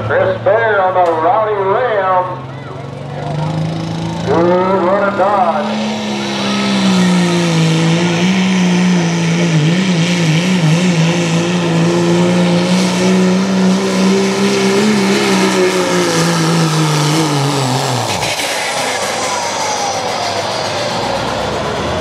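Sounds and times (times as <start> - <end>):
diesel engine at full power: 0.0 - 22.0.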